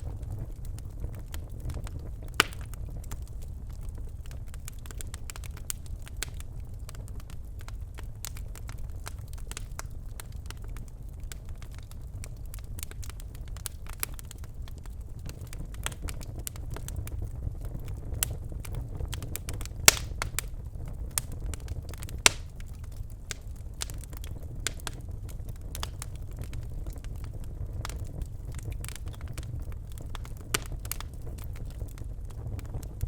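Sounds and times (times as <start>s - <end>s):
fire crackling and snapping: 0.0s - 33.0s
low rumble of flames: 0.0s - 33.0s
sharp pops of fire: 0.0s - 33.0s.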